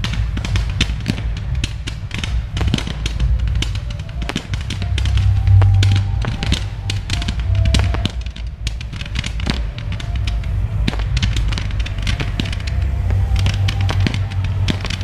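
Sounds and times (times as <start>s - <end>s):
fireworks bangs and crackles: 0.0s - 15.0s
low rumble: 0.0s - 15.0s.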